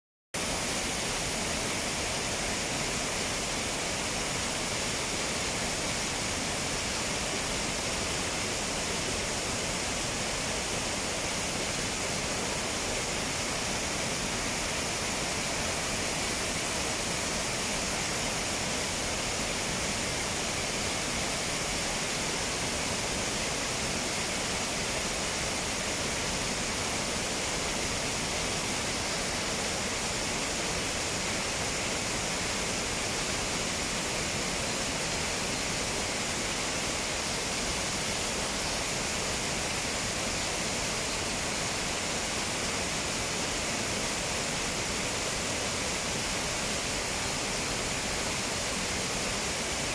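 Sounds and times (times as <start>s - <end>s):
waterfall rushing: 0.4s - 49.9s.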